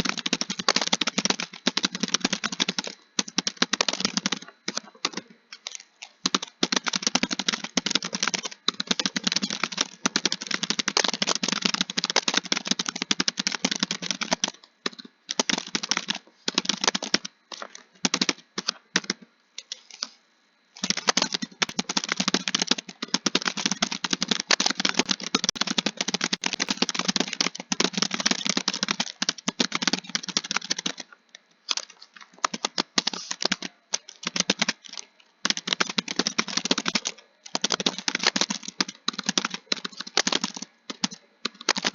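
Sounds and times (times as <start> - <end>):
typing on a keyboard: 0.0 - 19.7, 20.8 - 41.9.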